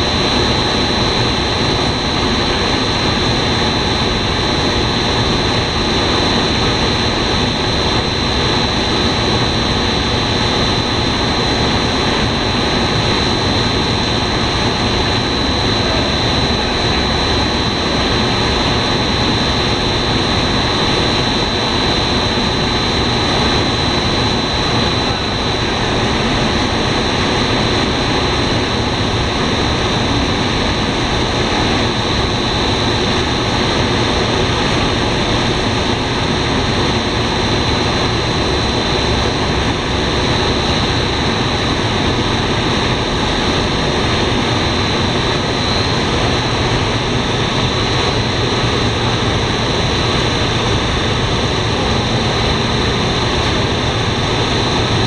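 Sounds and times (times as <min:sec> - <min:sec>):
high-pitched machine whine: 0:00.0 - 0:55.0
loud machine drone: 0:00.0 - 0:55.0.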